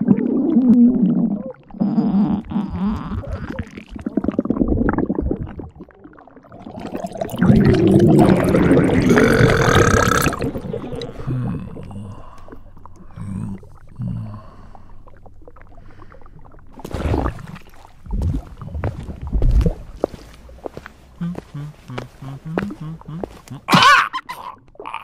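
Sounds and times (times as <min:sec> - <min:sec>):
stomach gurgling and rumbling: 0:00.0 - 0:25.0.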